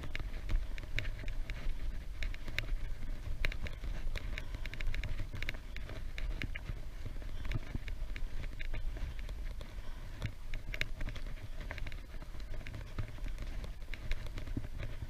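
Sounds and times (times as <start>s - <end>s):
bicycle clicks and rattles: 0.0s - 15.0s
wind rumbling on microphone: 0.0s - 15.0s.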